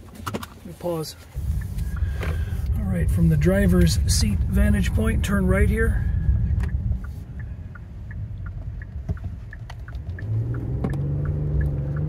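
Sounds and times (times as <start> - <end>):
car engine accelerating: 1.4 - 12.0
turn signal ticking: 1.4 - 12.0.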